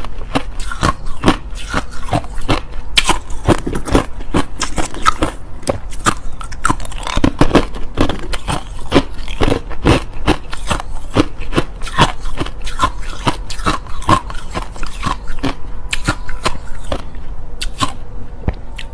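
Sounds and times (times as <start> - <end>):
crushed ice being chewed: 0.0 - 18.0.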